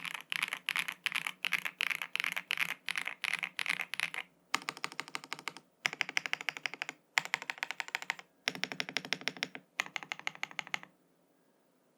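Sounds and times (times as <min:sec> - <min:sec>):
fast typing on mechanical keyboard: 0:00.0 - 0:10.9.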